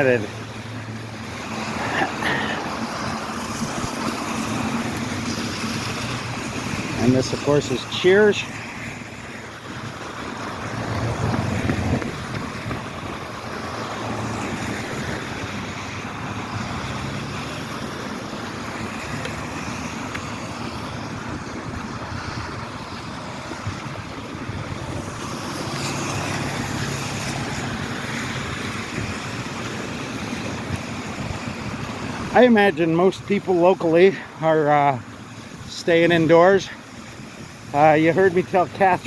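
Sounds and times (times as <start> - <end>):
low engine hum: 0.0 - 34.4
tyres hissing on wet pavement: 0.0 - 39.0.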